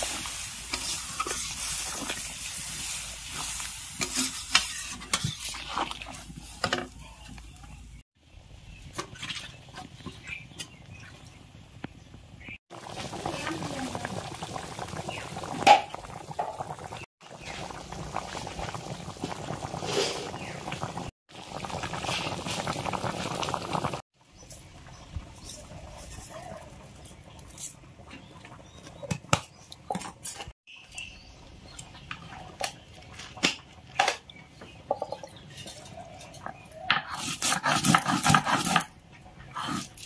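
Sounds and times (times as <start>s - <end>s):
thick gravy boiling and bubbling: 0.0s - 40.0s.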